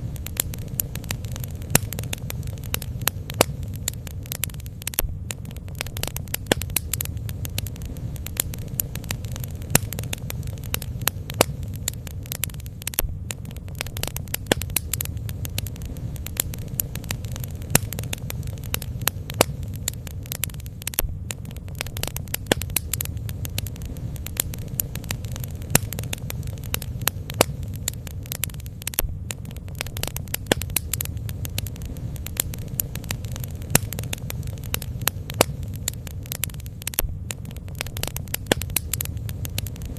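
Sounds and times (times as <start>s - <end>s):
bonfire wood crackling and popping: 0.0s - 39.9s
low rumble of fire: 0.0s - 39.9s.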